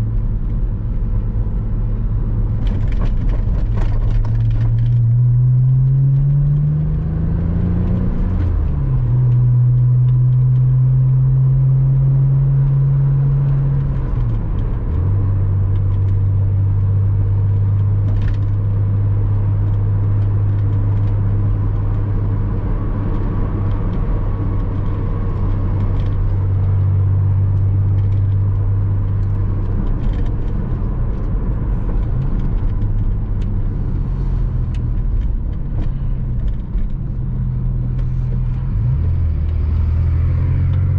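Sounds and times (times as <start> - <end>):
car engine pulling through gears: 0.0 - 40.9
road noise hum: 0.0 - 40.9.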